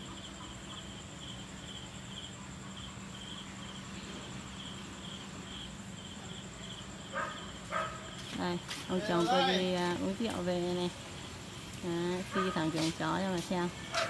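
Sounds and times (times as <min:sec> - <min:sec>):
high-pitched insect trill: 0:00.0 - 0:11.4
cricket-like chirps: 0:00.0 - 0:14.0.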